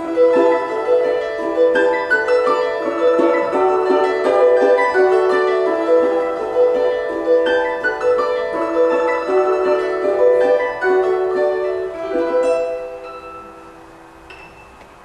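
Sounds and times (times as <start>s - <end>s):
plucked string trio playing: 0.0s - 14.4s.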